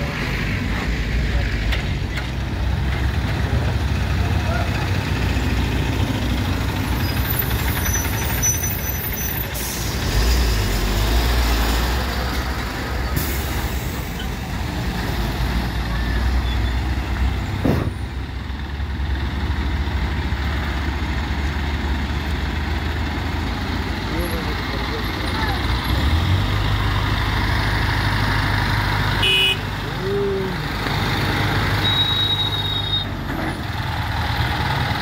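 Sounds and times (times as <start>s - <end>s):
auto-rickshaw passing: 0.0s - 35.0s
diesel truck engine rumble: 0.0s - 35.0s.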